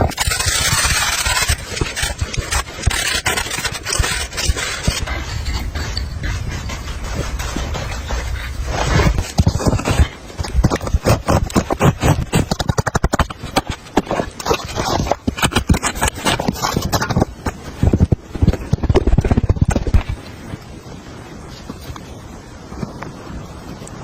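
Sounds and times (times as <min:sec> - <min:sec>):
rapid knocking and scraping: 0:00.0 - 0:20.3.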